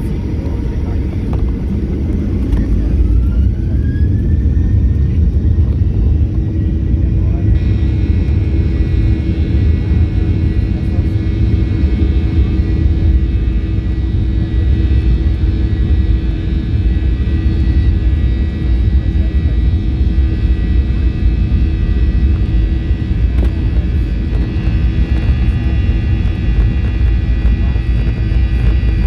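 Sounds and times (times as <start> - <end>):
jet engines rumbling in cabin: 0.0 - 29.0.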